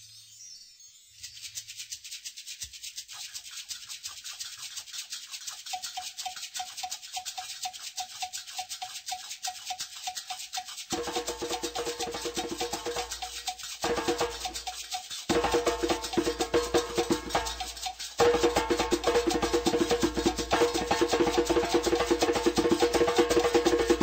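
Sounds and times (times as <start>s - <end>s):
background music with shaker rhythm: 0.1s - 24.0s.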